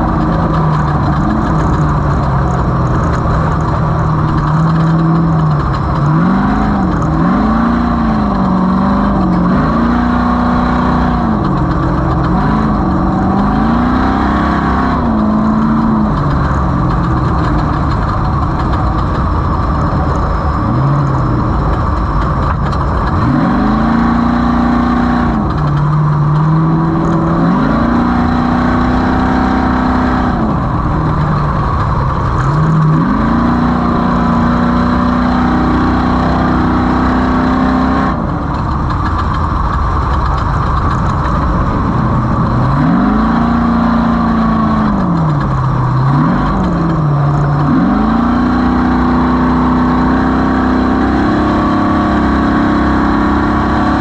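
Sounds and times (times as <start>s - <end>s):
race vehicle engine revving: 0.0s - 54.0s
rough rumble: 0.0s - 54.0s.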